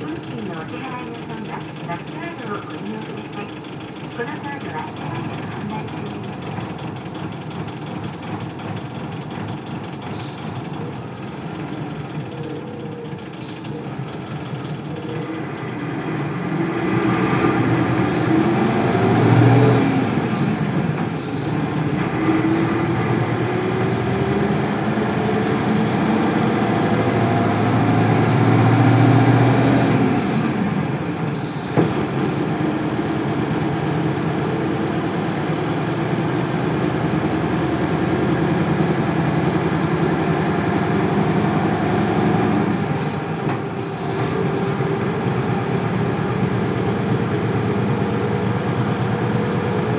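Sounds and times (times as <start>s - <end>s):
bus diesel engine running: 0.0s - 49.9s.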